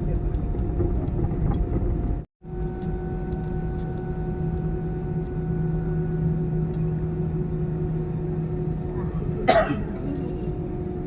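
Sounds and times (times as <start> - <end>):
airliner cabin hum: 0.0 - 11.0
constant whine: 0.0 - 11.0.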